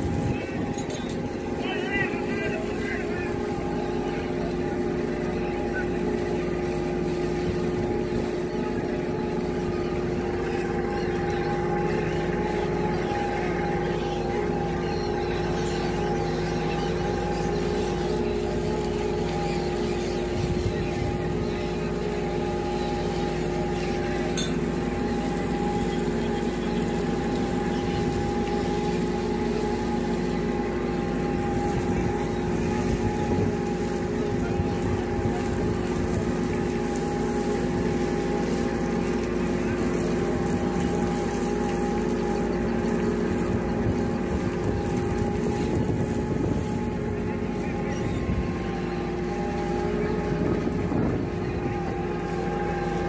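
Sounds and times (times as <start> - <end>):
boat engine and deck machinery humming: 0.0 - 53.0.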